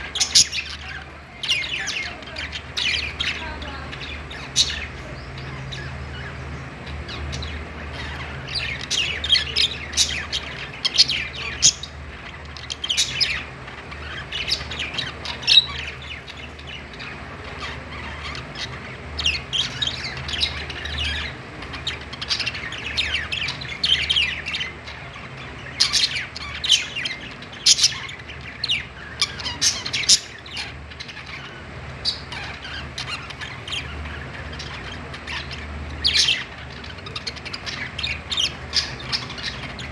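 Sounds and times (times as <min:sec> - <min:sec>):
budgerigars chirping: 0:00.0 - 0:39.9
steady low hum: 0:00.0 - 0:39.9.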